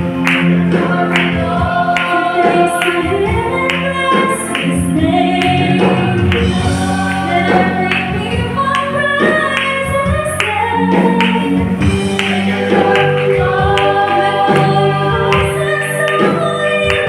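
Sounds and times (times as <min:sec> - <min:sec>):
choir singing gospel: 0:00.0 - 0:17.0
woman singing into microphone: 0:00.8 - 0:17.0.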